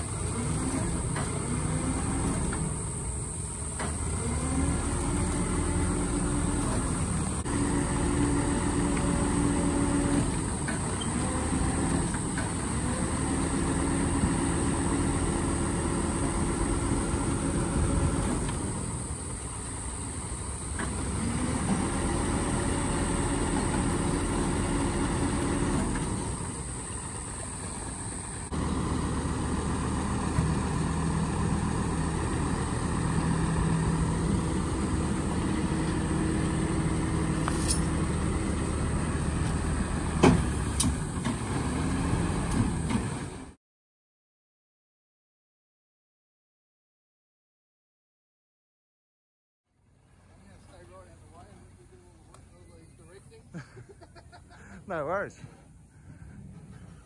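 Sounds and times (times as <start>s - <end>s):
tow truck engine running: 0.0s - 43.6s, 49.7s - 57.0s.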